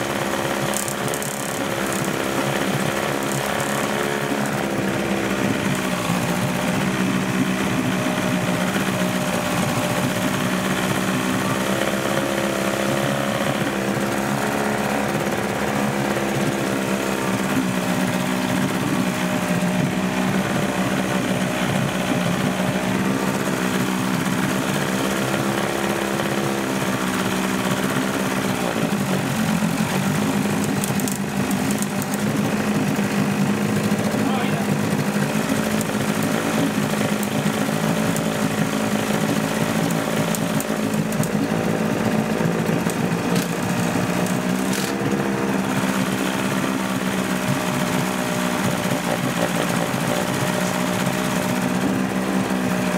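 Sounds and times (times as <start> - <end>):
outboard motor running: 0.0 - 52.9.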